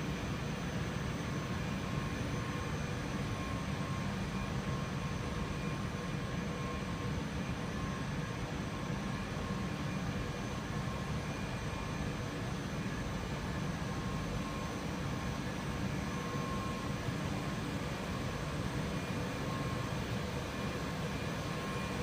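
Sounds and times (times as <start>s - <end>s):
faint whining tones: 0.2s - 22.0s.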